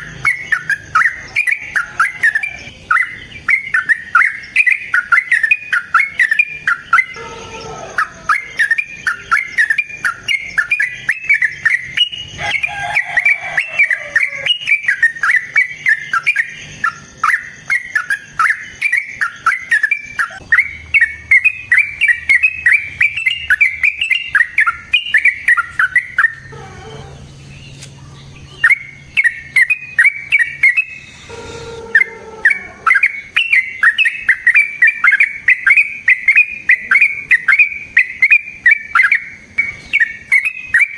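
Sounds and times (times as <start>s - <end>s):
bird singing rapid notes: 0.0s - 40.9s.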